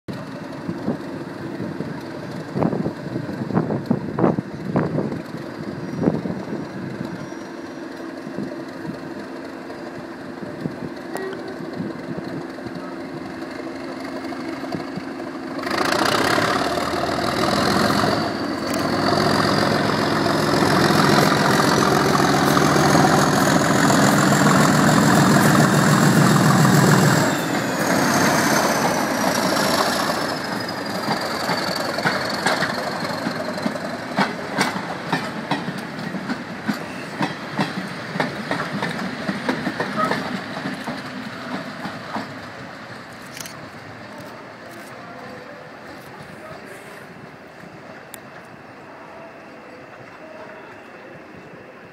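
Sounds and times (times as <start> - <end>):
diesel locomotive engine: 0.0 - 51.9.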